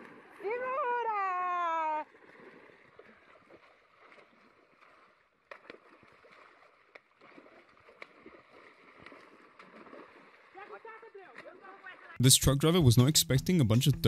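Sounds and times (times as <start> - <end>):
sharp splashes: 0.0 - 12.2
water sloshing and splashing: 0.0 - 12.2.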